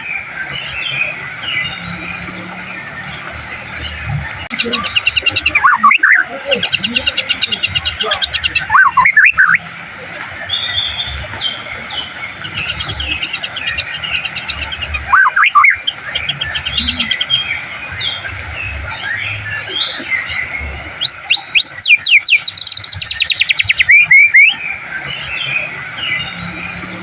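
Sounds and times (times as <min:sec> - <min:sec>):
bird whistles and trills: 0:00.0 - 0:27.0.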